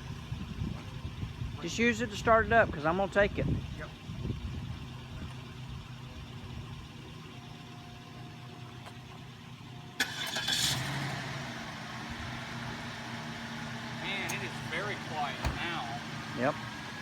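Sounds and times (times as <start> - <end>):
car engine starting and idling: 0.0 - 17.0.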